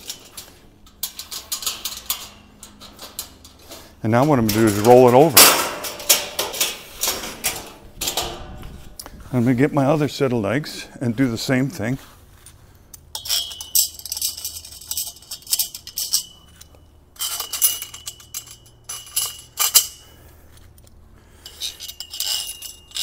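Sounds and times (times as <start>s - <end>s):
bolts and washers clinking on metal: 0.0s - 9.2s, 12.4s - 23.0s.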